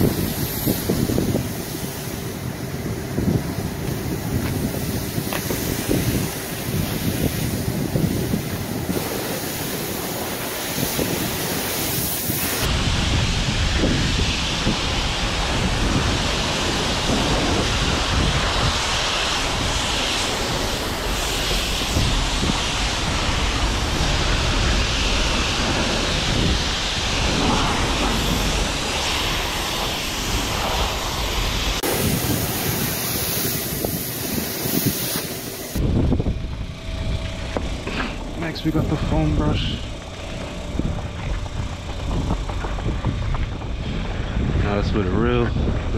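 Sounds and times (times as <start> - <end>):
high-pressure water spray: 0.0 - 44.8.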